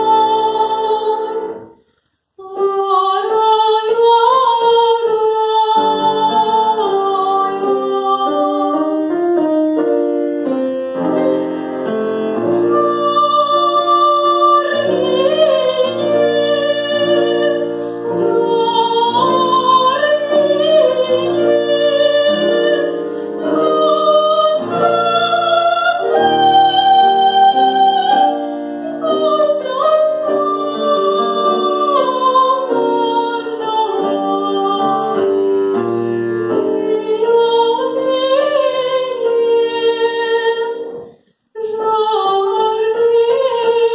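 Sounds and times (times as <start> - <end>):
woman singing opera: 0.0 - 1.7, 2.4 - 9.2, 12.4 - 43.9
piano accompaniment: 0.0 - 1.8, 2.4 - 43.9.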